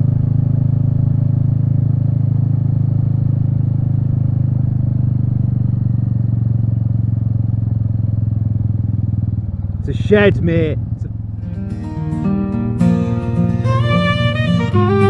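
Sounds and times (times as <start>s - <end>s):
motorcycle engine droning: 0.0s - 15.0s
road noise: 0.0s - 15.0s.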